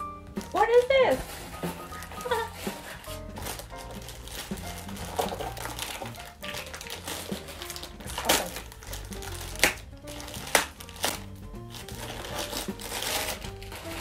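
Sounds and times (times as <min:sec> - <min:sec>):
background music: 0:00.0 - 0:14.0
plastic bag crinkling: 0:00.3 - 0:14.0.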